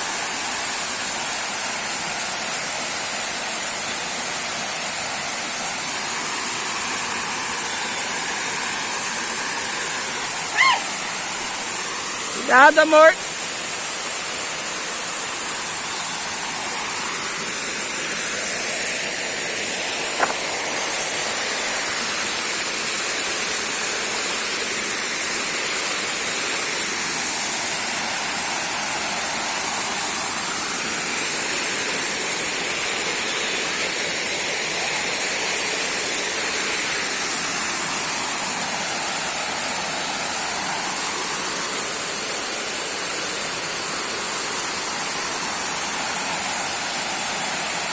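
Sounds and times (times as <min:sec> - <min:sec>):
small waterfall splashing: 0:00.0 - 0:47.9.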